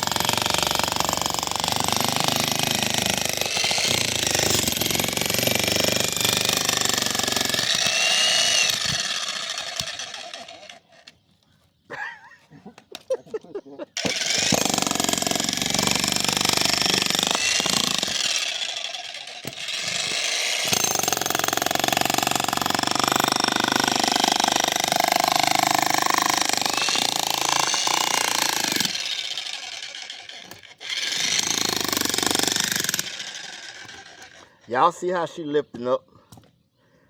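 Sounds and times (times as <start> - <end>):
jackhammer hammering concrete: 0.0 - 10.9, 14.0 - 34.5.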